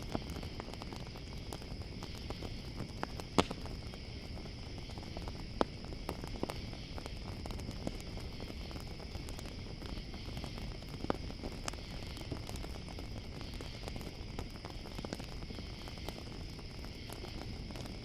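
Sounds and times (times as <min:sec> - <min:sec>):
campfire crackling and popping: 0:00.0 - 0:18.0
crickets chirping: 0:00.0 - 0:18.0.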